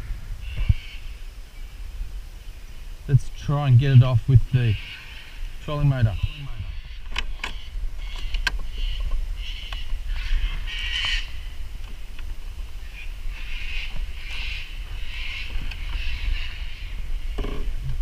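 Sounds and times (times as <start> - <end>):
birds calling: 0.0 - 18.0
steady low rumble: 0.0 - 18.0.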